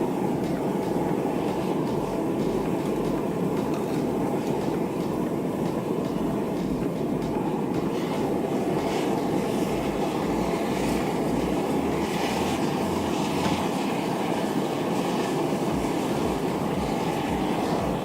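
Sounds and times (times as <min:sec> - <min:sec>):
furnace running: 0:00.0 - 0:18.0.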